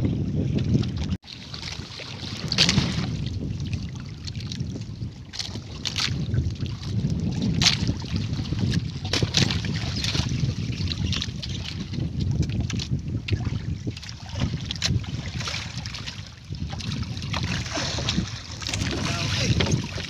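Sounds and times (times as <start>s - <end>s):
water splashing against boat hull: 0.0s - 20.0s
wind buffeting microphone: 0.0s - 20.0s.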